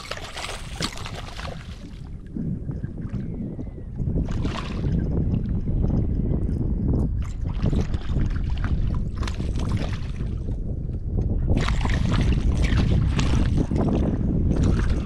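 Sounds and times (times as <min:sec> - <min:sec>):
water splashing and sloshing: 0:00.0 - 0:10.5, 0:11.5 - 0:15.0
wind buffeting microphone: 0:00.0 - 0:15.0.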